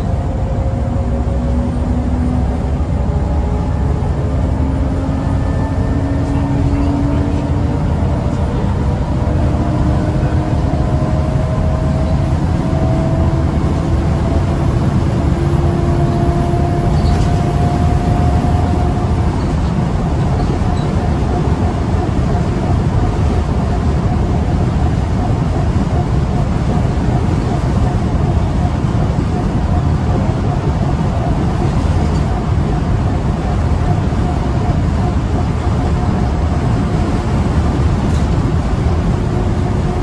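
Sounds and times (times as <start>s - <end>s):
bus engine and road rumble: 0.0s - 40.0s
gearbox whine rising in pitch: 0.0s - 40.0s.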